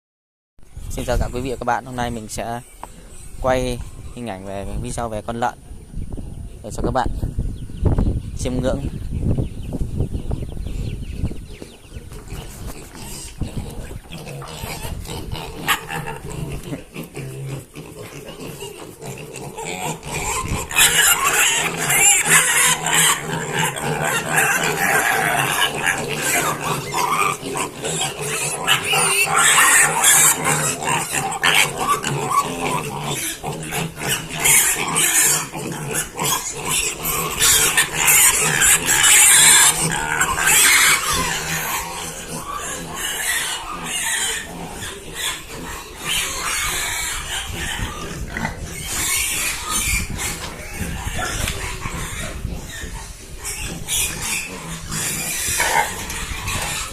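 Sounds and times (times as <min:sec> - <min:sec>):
pigs squealing: 0:10.8 - 0:56.9.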